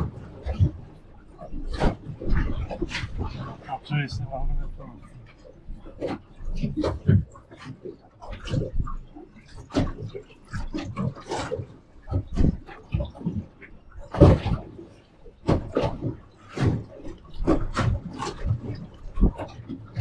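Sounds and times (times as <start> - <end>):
water splashing against boat: 0.0 - 20.0.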